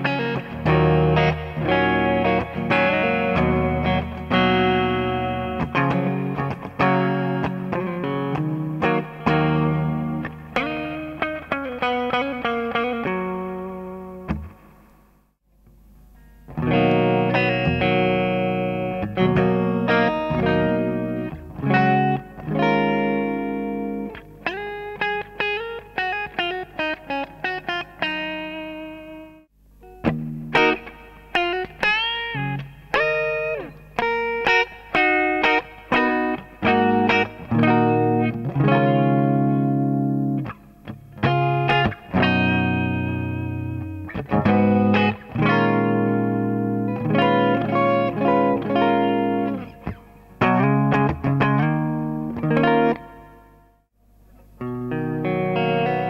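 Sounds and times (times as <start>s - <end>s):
electric guitar with reverb: 0.0s - 56.0s.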